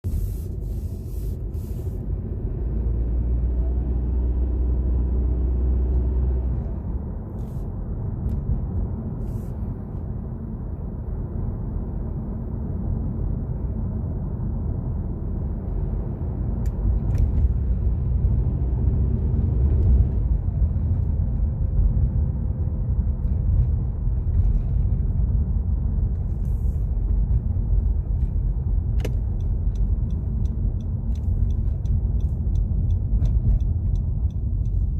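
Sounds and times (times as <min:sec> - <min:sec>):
car engine low rumble: 0:00.0 - 0:34.9
faint engine whine: 0:00.0 - 0:34.9.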